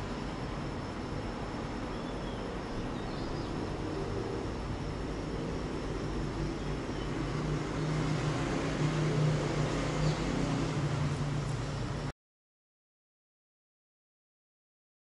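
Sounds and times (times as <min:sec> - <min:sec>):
street traffic: 0:00.0 - 0:12.1.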